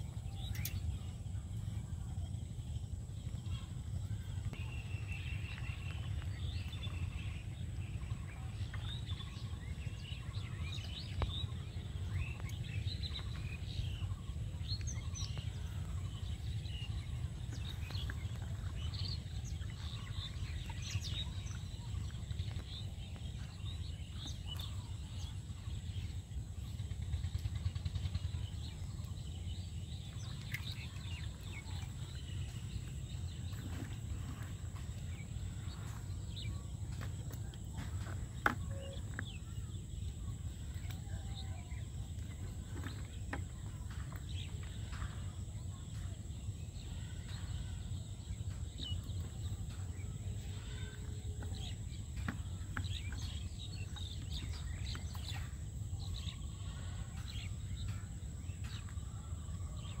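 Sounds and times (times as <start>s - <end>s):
steady low rumble: 0.0s - 59.6s
small birds chirping: 0.0s - 60.0s.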